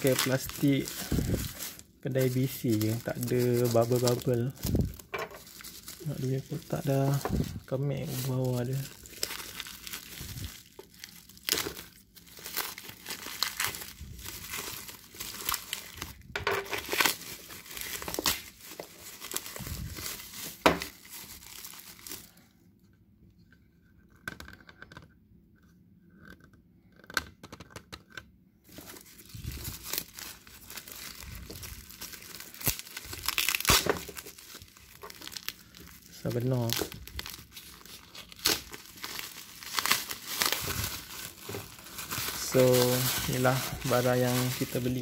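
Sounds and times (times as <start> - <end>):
plastic bag crinkling and tearing: 0.0 - 22.5, 28.7 - 45.0.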